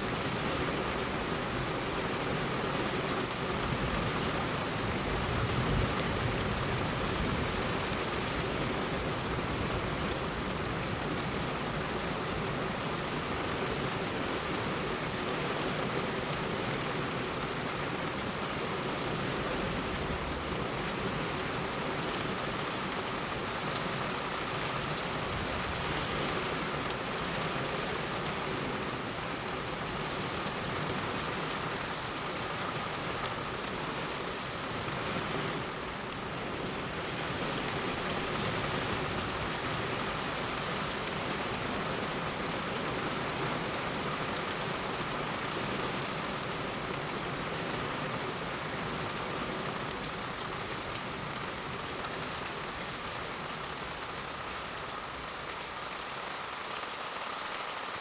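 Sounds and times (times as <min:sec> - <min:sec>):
heavy rain on a road: 0:00.0 - 0:58.0.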